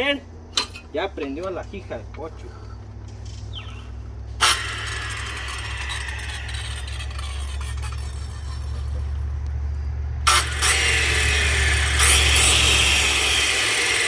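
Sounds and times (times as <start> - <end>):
electric power saw whining: 0.0 - 14.0.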